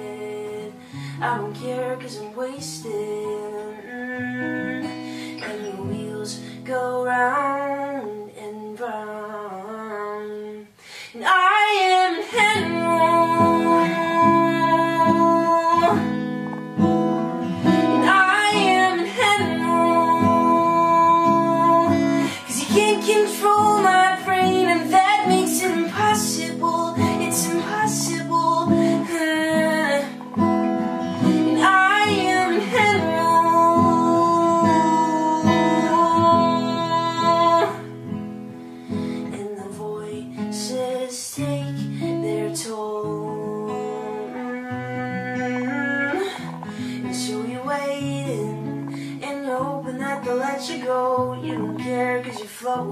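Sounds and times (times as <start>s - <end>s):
person singing: 0.0s - 38.2s, 39.0s - 52.9s
acoustic guitar: 0.0s - 52.9s.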